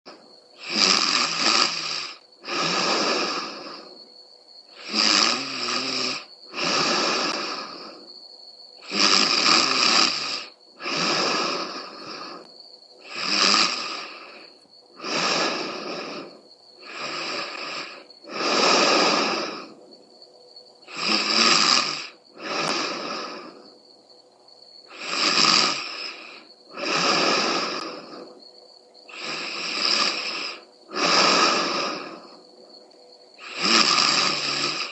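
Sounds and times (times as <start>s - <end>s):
woman snoring: 0.6s - 4.0s, 4.7s - 8.1s, 8.8s - 19.8s, 20.9s - 23.7s, 24.9s - 28.4s, 29.1s - 32.4s, 33.4s - 34.9s.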